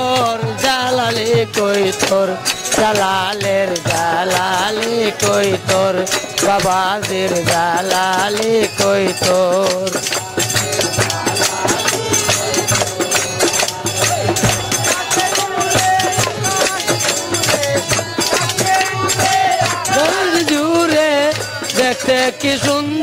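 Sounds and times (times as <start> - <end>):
hand drum beating fast rhythm: 0.0 - 23.0
instrumental melody: 0.4 - 22.3.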